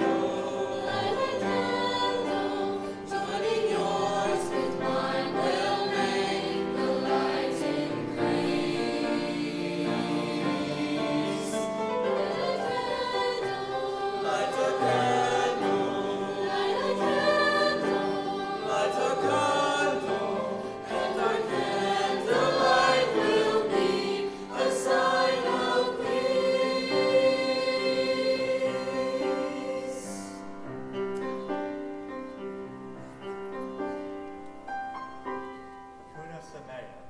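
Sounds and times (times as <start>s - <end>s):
choir singing: 0.0s - 34.2s.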